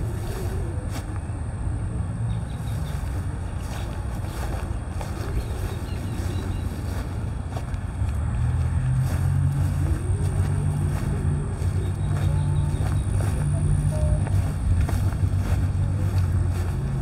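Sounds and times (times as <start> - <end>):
locomotive engine idling: 0.0 - 17.0.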